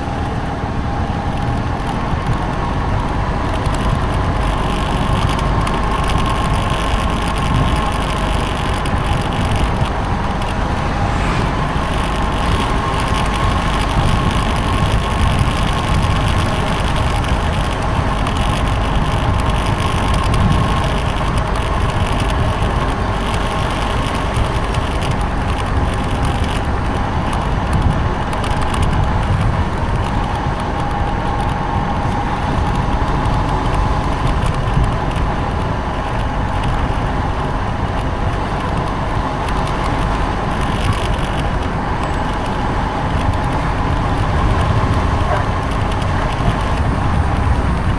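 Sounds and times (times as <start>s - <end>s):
motorbike engine whine: 0.0s - 47.9s
wind and road noise: 0.0s - 47.9s.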